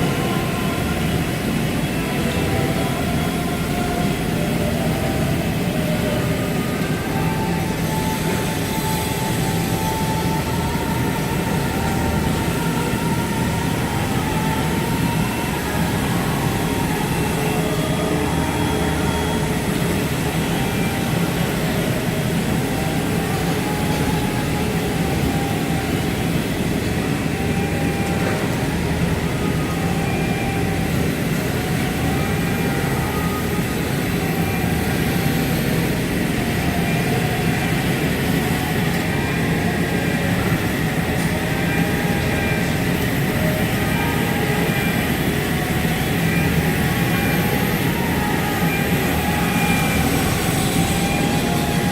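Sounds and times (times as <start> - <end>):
fabric-cutting machine drone: 0.0 - 51.9
faint machine whine: 0.0 - 51.9.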